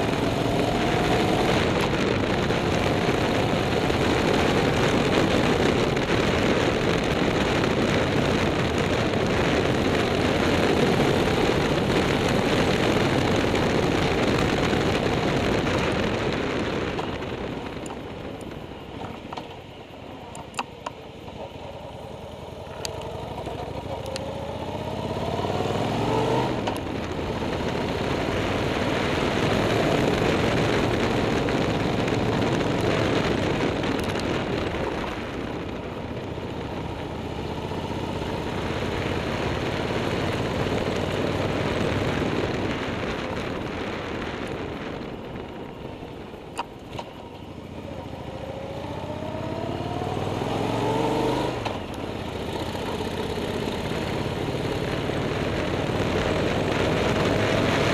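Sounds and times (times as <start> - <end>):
motorcycle engine accelerating: 0.0 - 57.9
wind noise at speed: 0.0 - 57.9.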